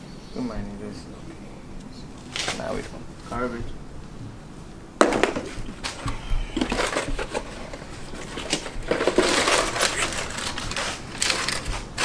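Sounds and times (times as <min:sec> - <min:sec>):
trash rustling and crinkling: 0:00.4 - 0:12.0.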